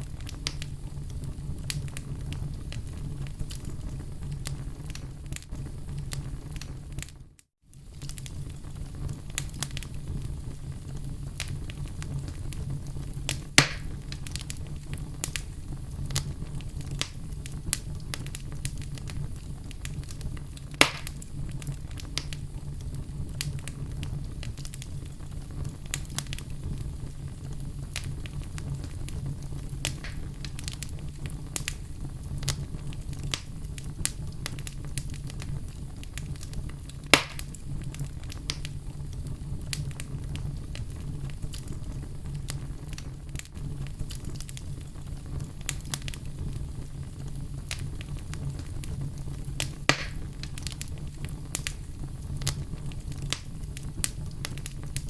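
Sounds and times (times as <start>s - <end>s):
fine fire crackling: 0.0s - 55.0s
low rumble of flames: 0.0s - 55.0s
sharp fire pops: 0.0s - 55.0s.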